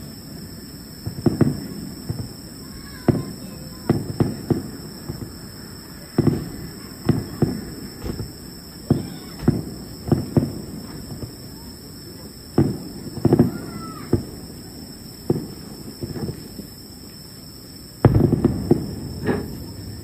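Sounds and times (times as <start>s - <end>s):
distant fireworks bangs: 0.0s - 20.0s.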